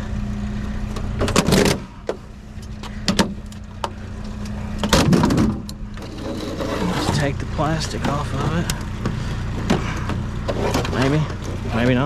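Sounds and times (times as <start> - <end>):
low engine hum: 0.0 - 12.0
rattling and scraping: 0.8 - 12.0.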